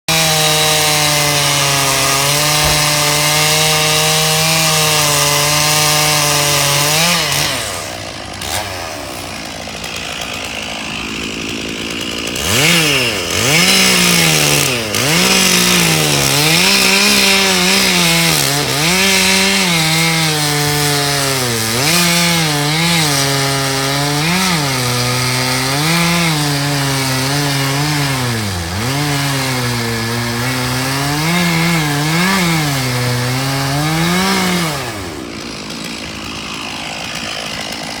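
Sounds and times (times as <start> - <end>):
stump cutter engine cutting wood: 0.1 - 38.0.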